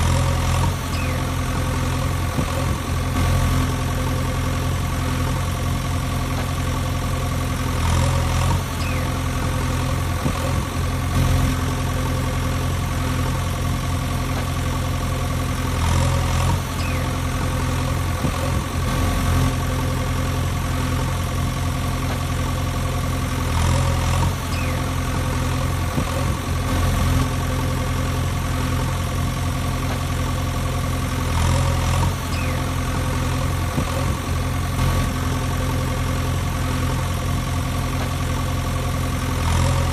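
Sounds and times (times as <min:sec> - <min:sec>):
heavy vehicle engine idling: 0:00.0 - 0:39.9.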